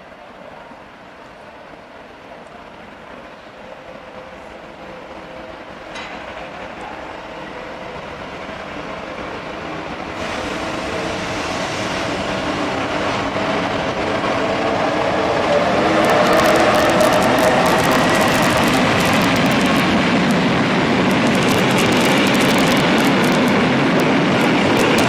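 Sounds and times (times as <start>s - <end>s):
electric locomotive passing: 0.0s - 25.0s.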